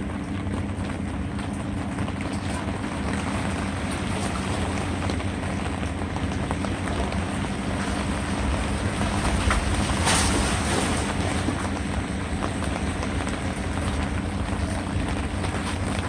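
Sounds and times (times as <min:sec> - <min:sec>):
raindrop ticks: 0:00.0 - 0:09.9, 0:11.1 - 0:16.0
low steady hum: 0:00.0 - 0:16.0
steady rain: 0:00.0 - 0:16.0.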